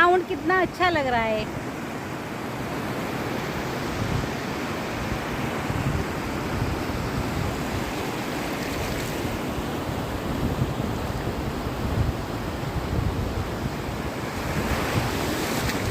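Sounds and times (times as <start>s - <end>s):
sea waves rolling onto shore: 0.0s - 15.9s.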